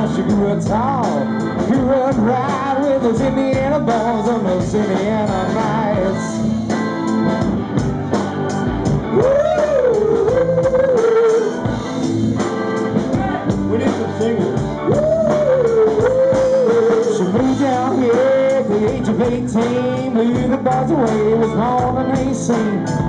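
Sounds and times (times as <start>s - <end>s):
live rock band playing: 0.0s - 23.0s
sliding lead melody: 0.0s - 23.0s.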